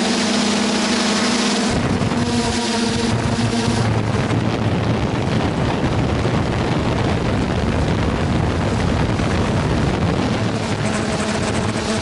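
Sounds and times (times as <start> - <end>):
drone motors humming: 0.0 - 12.0
wind on microphone: 0.0 - 12.0.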